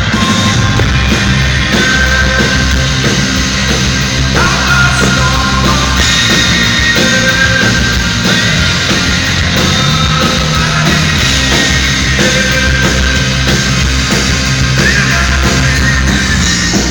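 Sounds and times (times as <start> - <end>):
rock band playing live: 0.0 - 16.9.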